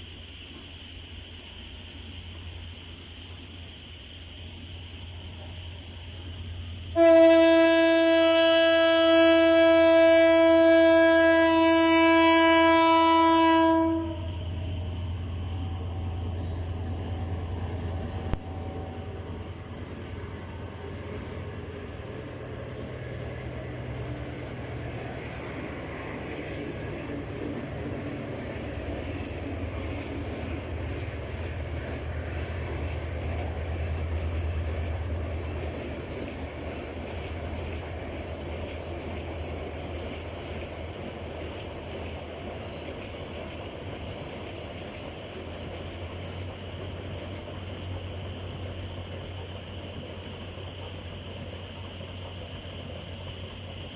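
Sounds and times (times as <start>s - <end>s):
train rumbling with hiss: 0.0s - 53.9s.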